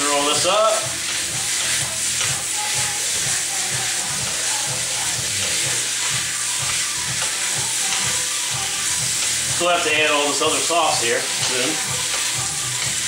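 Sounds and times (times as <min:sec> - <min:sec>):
chicken sizzling in hot oil: 0:00.0 - 0:13.0
low music beat: 0:00.0 - 0:13.0.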